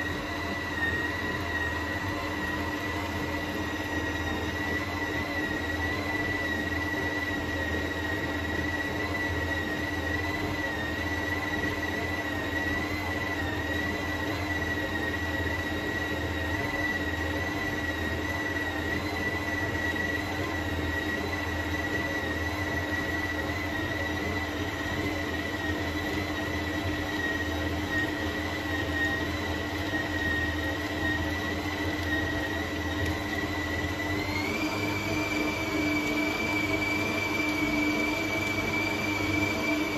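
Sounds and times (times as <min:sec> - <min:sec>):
stand mixer whining and humming: 0:00.0 - 0:39.9.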